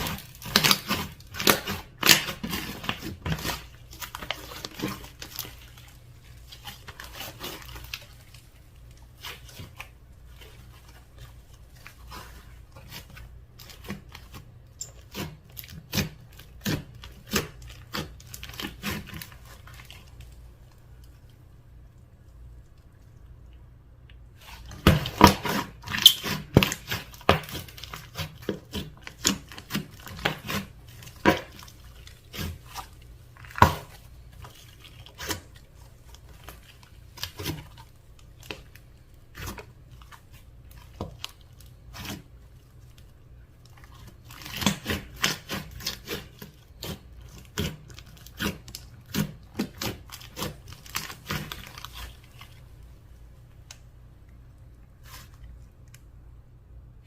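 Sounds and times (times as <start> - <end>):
slime squishing with wet pops: 0.0 - 56.4.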